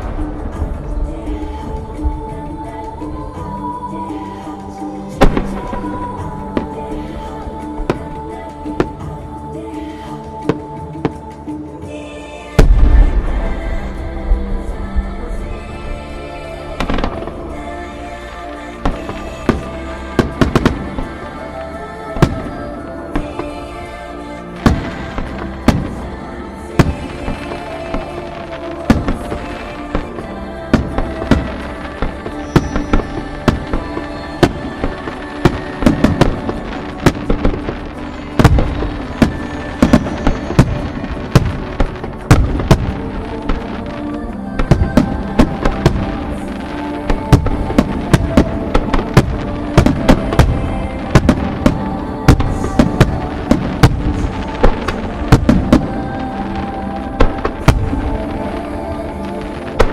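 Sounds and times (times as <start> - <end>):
fireworks booming and crackling: 0.0 - 9.2, 12.6 - 23.8, 24.5 - 59.9
music with held tones: 0.0 - 59.9.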